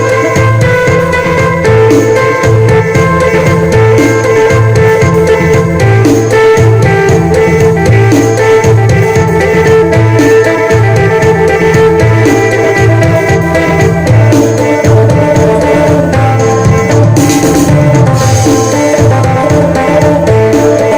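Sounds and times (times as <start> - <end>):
bass line: 0.0 - 20.9
drum kit beat: 0.0 - 20.9
steady drone: 0.0 - 20.9.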